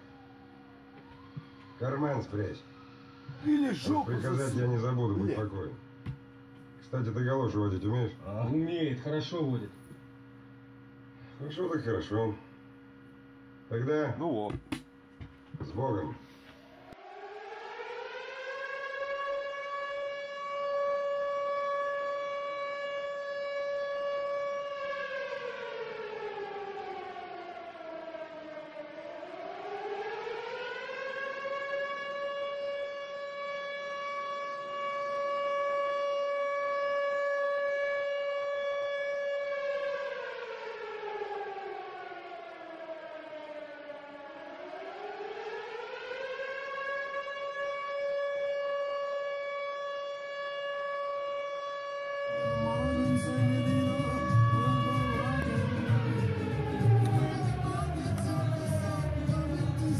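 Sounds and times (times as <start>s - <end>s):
siren wailing: 0.0s - 14.3s, 15.2s - 59.9s.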